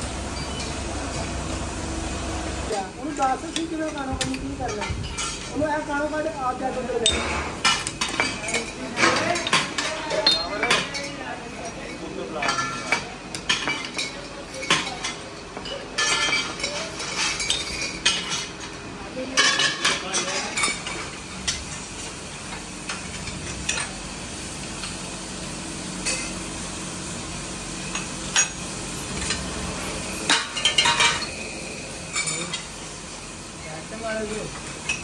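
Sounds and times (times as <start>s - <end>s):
workshop hiss: 0.0s - 35.0s.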